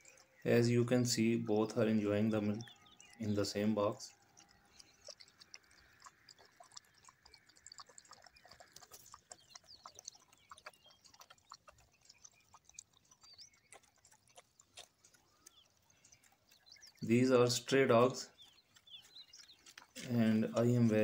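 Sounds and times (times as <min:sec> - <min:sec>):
dogs lapping milk: 0:00.0 - 0:21.0.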